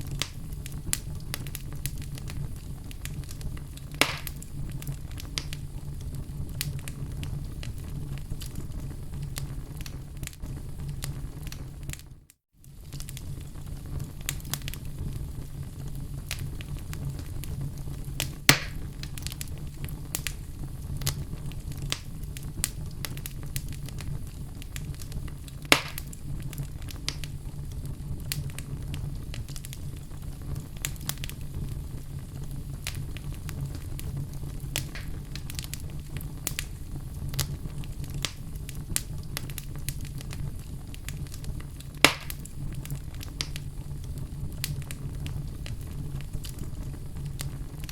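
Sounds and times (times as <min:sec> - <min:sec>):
fire popping: 0:00.0 - 0:47.9
low fire rumble: 0:00.0 - 0:47.9
wood fire crackling: 0:00.0 - 0:47.9.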